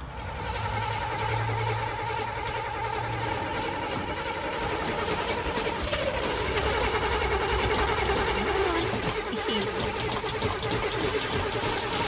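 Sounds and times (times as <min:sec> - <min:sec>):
car engine cranking on starter: 0:00.0 - 0:12.0.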